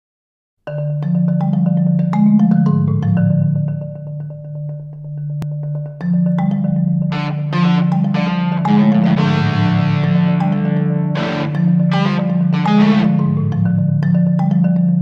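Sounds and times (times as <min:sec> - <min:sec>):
marimba played with mallets: 0:00.6 - 0:15.0.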